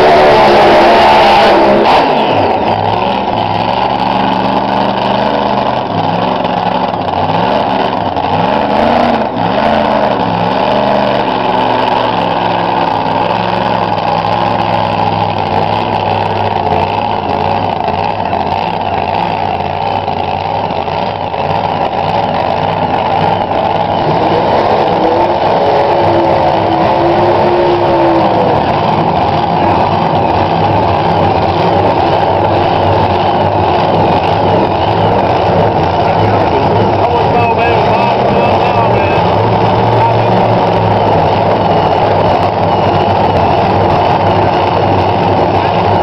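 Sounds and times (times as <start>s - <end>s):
racing car engine revving: 0.0s - 46.0s.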